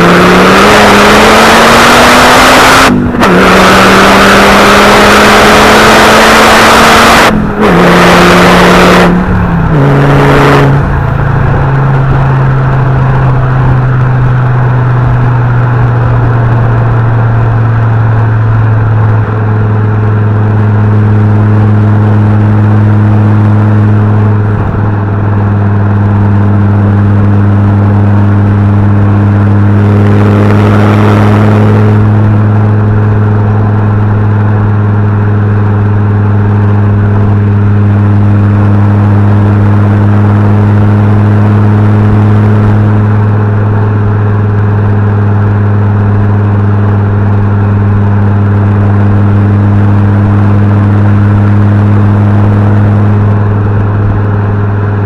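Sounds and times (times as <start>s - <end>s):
car engine and exhaust accelerating: 0.0s - 55.0s.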